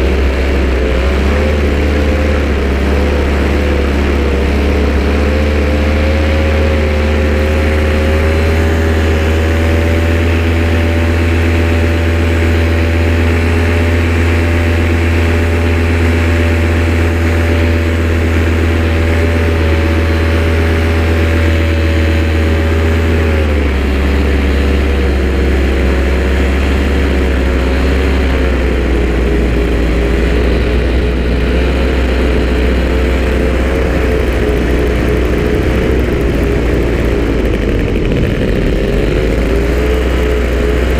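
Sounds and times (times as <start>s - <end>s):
loud engine running: 0.0s - 40.9s.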